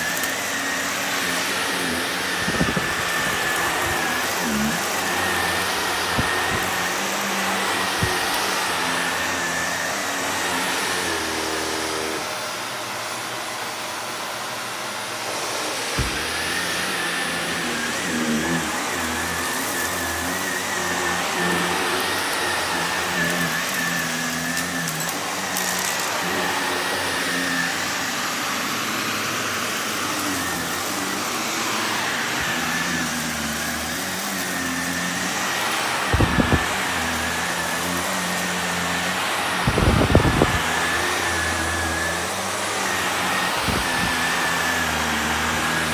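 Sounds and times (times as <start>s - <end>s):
vacuum cleaner motor whine: 0.0s - 45.9s.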